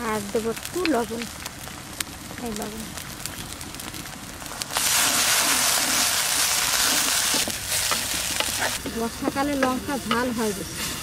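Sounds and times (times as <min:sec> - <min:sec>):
flowers frying in hot oil: 0:00.0 - 0:11.0.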